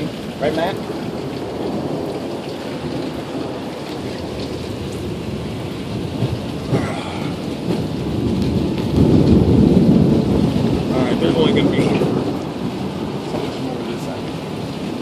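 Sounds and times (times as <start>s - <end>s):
heavy rain falling: 0.0s - 15.0s
thunder rumbling: 0.0s - 15.0s.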